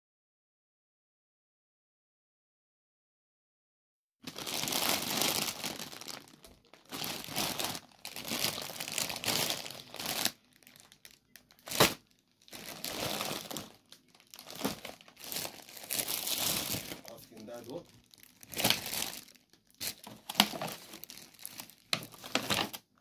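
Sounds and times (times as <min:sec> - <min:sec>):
plastic packaging crinkling: 0:04.2 - 0:23.0.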